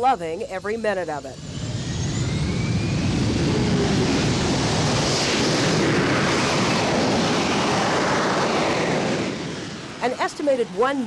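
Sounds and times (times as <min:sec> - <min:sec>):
jet engine roar: 0:01.3 - 0:11.0.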